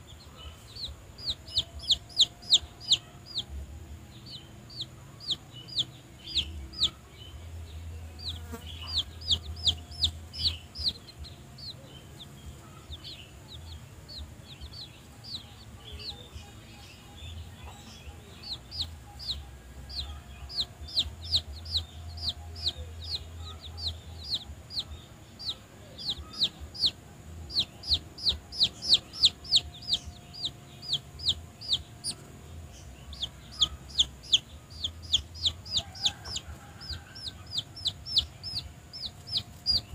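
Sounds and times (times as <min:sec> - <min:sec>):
chick peeping: 0:00.0 - 0:39.9.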